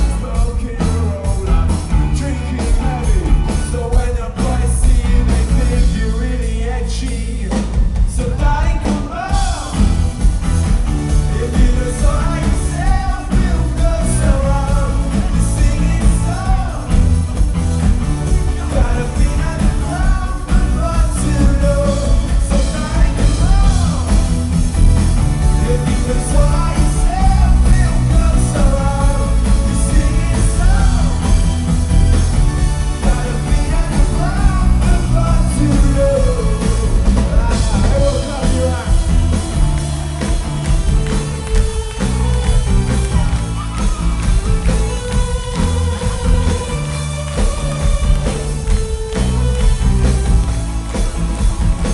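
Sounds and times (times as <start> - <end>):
person singing: 0.0 - 10.3, 11.1 - 17.4, 18.0 - 24.6, 25.2 - 50.0
rock band playing live: 0.0 - 51.9.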